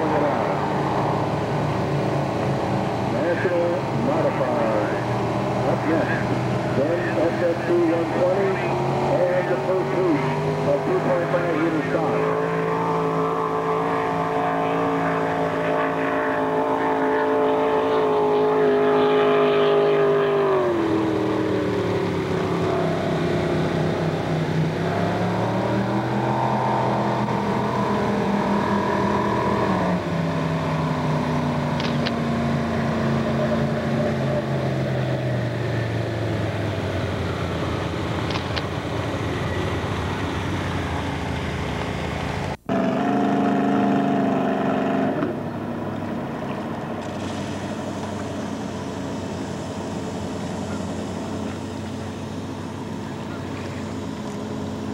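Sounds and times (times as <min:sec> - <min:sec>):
racing boat engines: 0:00.0 - 0:54.9.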